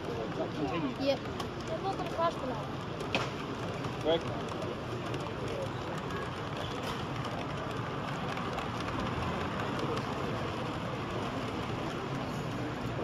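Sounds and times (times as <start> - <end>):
murmur of distant voices: 0.0 - 13.0.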